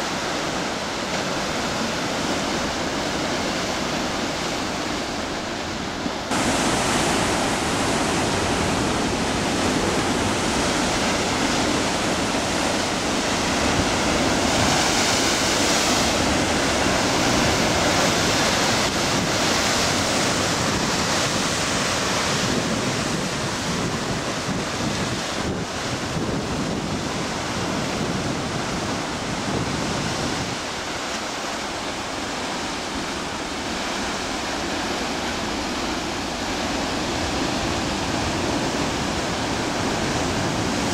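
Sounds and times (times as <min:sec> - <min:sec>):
ocean surf crashing on rocks: 0:00.0 - 0:40.9.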